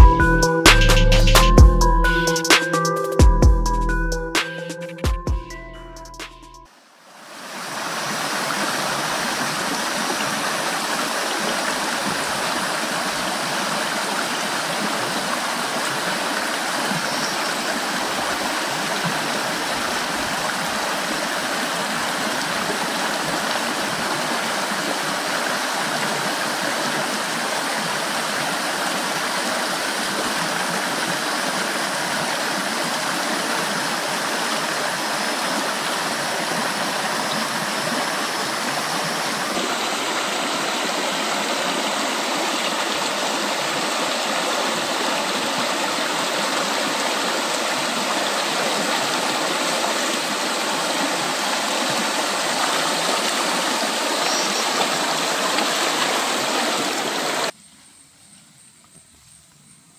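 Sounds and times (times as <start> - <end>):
stream rushing over rocks: 6.7 - 57.5.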